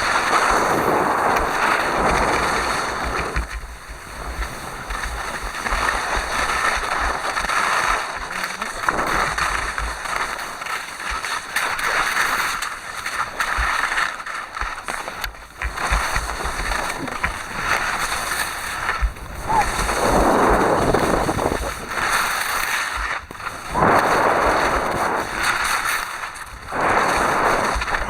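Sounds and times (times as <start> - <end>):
wind buffeting microphone: 0.0 - 10.4, 15.0 - 28.0.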